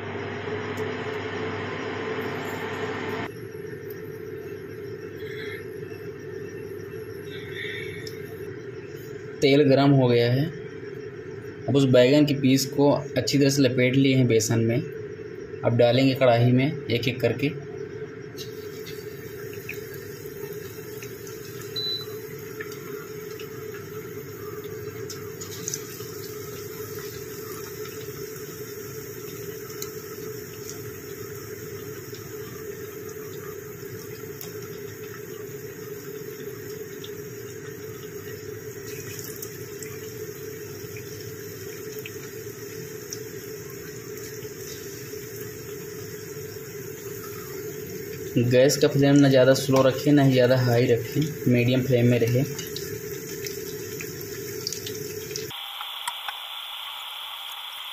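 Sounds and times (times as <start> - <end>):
food deep-frying in oil: 0.0 - 57.9.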